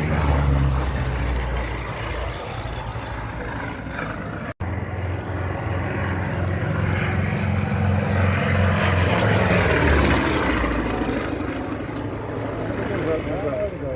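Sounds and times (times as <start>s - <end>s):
propeller plane engine droning: 0.0s - 13.9s.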